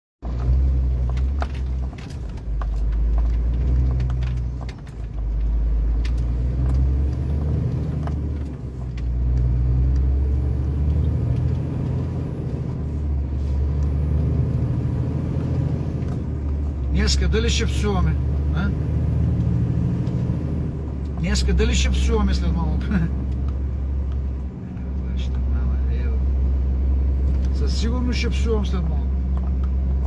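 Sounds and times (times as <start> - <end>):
road noise: 0.2 - 30.0.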